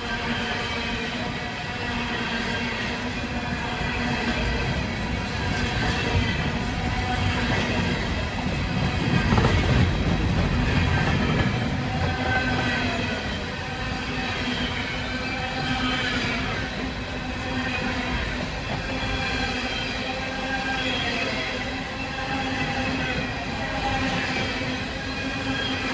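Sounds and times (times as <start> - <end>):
steel wheels rumbling on rail: 0.0 - 25.9.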